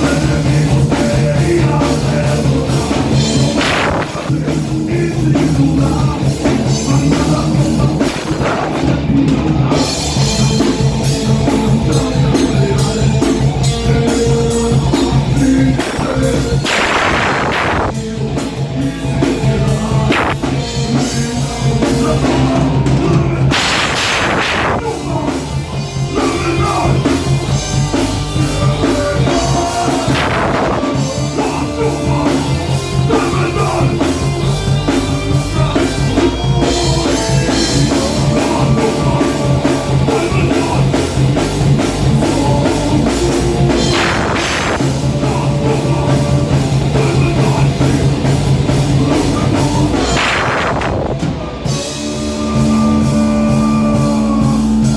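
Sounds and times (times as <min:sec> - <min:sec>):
heavy metal band playing: 0:00.0 - 0:54.9.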